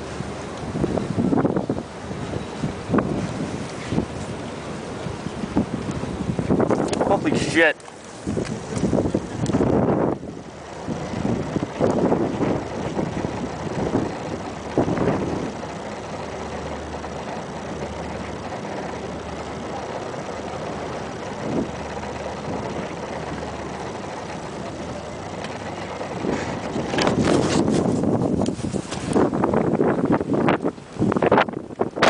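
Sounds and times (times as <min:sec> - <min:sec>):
low steady hum: 0:00.0 - 0:32.0
wind gusting over microphone: 0:00.0 - 0:32.0.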